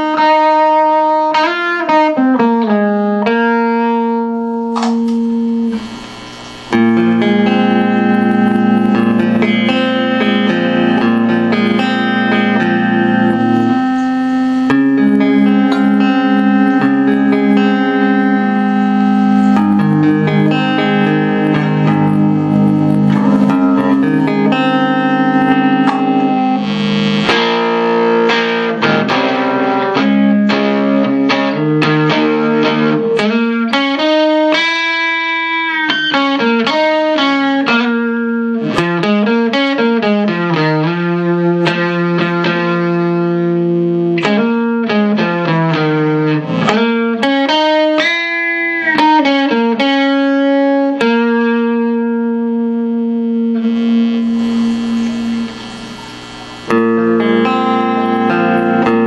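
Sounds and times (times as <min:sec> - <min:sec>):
electric guitar: 0:00.0 - 0:59.0.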